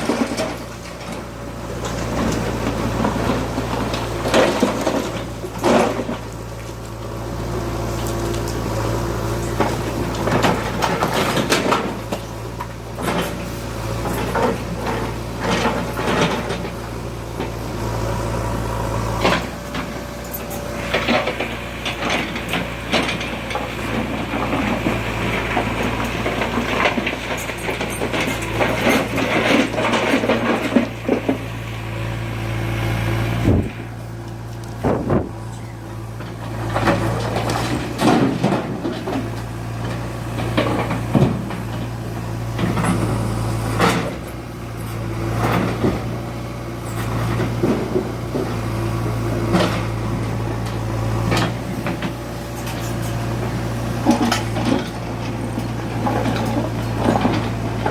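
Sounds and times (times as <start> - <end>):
backhoe diesel engine running: 0.0 - 57.9.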